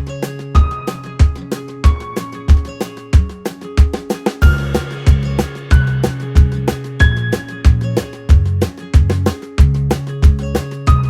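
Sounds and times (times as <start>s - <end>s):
upbeat music with drums and bass: 0.0s - 11.0s.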